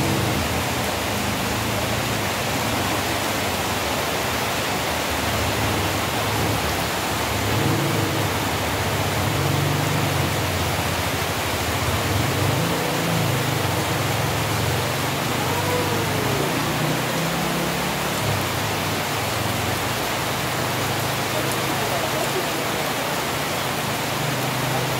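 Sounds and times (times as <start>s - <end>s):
heavy rain hiss: 0.0s - 24.9s.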